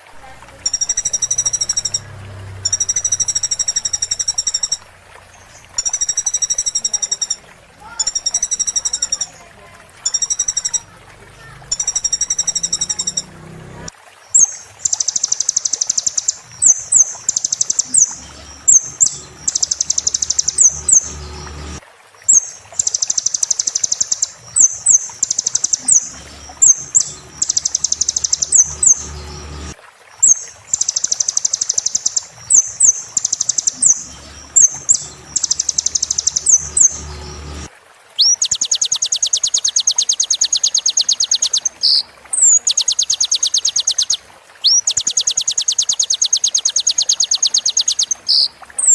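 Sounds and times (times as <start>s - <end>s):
bird trilling song: 0.0s - 11.0s, 11.6s - 48.9s.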